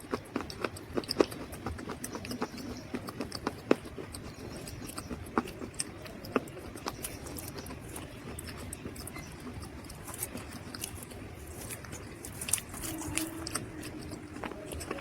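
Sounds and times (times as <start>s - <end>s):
dry mud crunching: 0.0s - 15.0s
low steady background noise: 0.0s - 15.0s.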